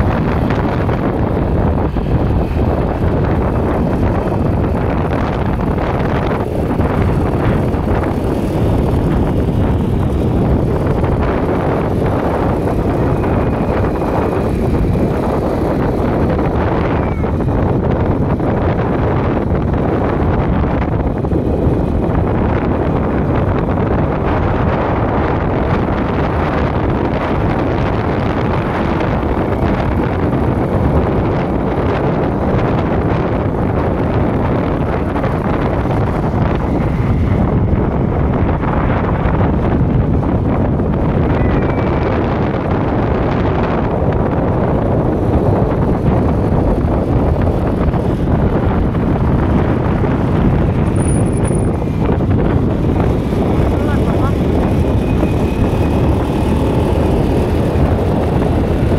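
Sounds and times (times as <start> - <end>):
motorcycle road noise rumble: 0.0 - 58.9
wind buffeting microphone: 0.0 - 58.9.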